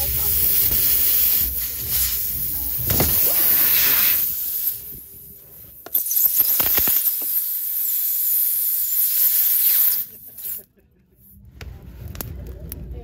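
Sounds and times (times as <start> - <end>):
air hissing from tire puncture: 0.0 - 10.7.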